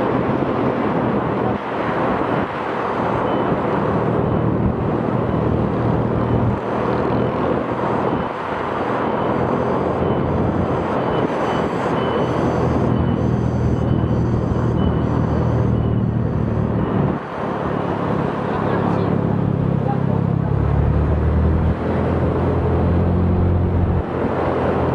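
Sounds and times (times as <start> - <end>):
air rush and road noise: 0.0 - 24.9.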